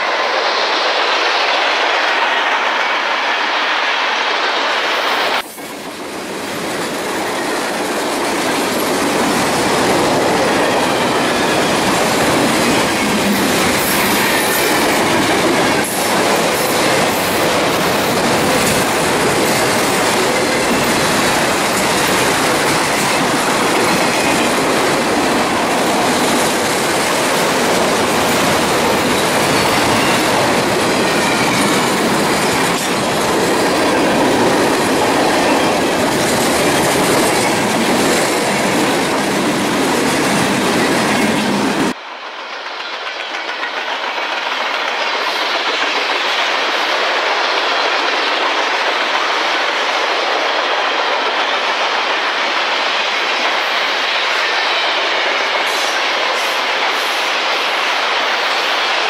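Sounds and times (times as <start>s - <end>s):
deep train rumble: 0.0s - 59.0s
train wheels on rails: 0.0s - 59.0s.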